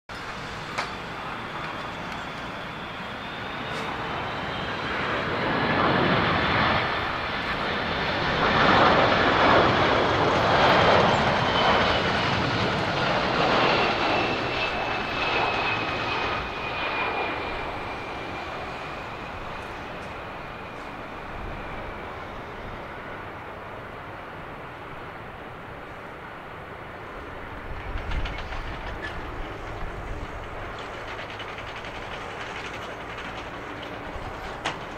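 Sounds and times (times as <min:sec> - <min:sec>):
jet airliner passing by: 0:00.1 - 0:34.9.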